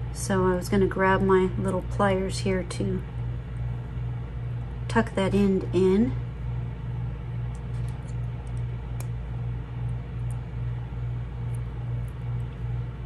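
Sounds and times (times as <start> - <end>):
pulsing low hum: 0.0 - 13.0.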